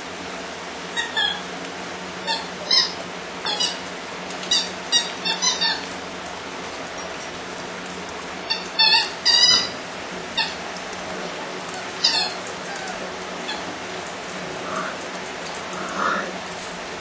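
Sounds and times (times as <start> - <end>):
puppies yelping and squealing: 0.9 - 16.8.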